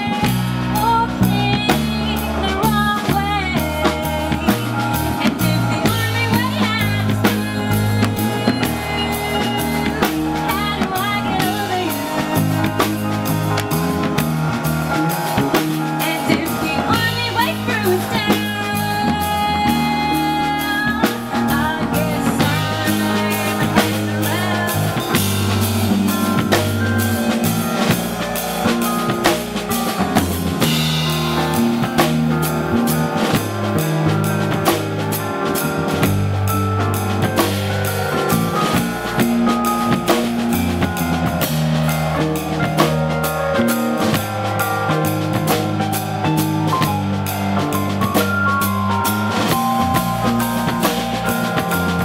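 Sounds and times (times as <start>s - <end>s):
live rock band music: 0.0s - 52.0s.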